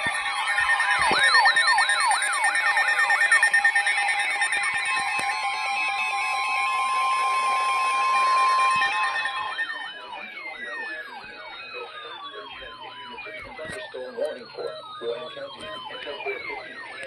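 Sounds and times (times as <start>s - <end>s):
layered electronic alert tones: 0.0s - 17.0s
wavering siren sweeps: 0.0s - 17.0s.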